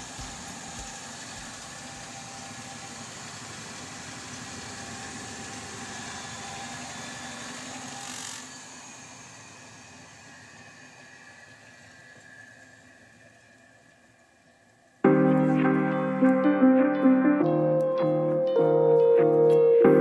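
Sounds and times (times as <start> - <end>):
generator hum with whine: 0.0 - 20.0.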